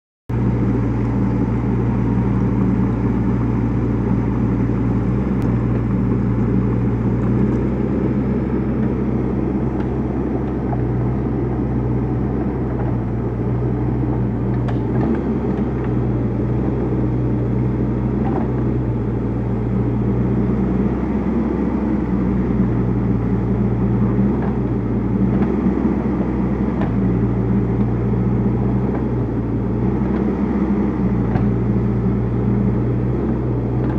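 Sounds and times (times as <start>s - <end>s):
excavator diesel engine running: 0.3s - 33.9s.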